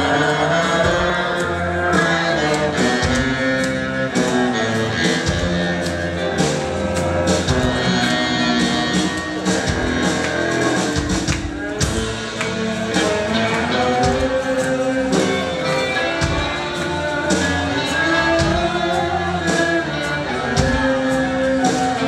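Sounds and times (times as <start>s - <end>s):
bass guitar: 0.0s - 22.0s
drum kit: 0.0s - 22.0s
electric guitars: 0.0s - 22.0s
saxophone: 0.0s - 22.0s
tuba: 0.0s - 22.0s.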